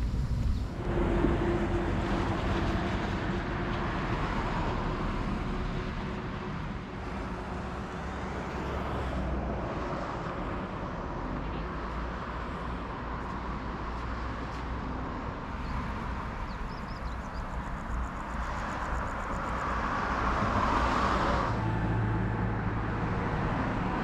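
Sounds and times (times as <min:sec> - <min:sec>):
moving vehicle running noise: 0:00.0 - 0:24.0.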